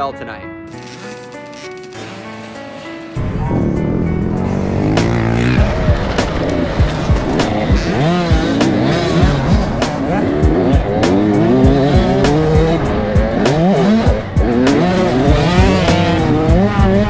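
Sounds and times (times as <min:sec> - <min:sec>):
dirt bike engines revving: 0:00.7 - 0:17.0.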